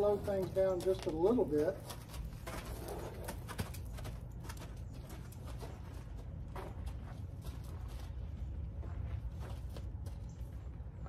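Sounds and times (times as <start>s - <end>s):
hooves thudding in sand: 0.0s - 11.0s
steady low rumble: 1.7s - 11.0s.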